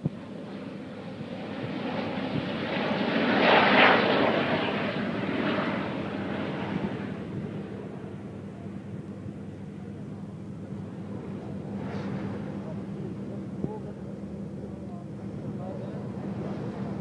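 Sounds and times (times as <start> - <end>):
jet airliner noise: 0.0 - 17.0.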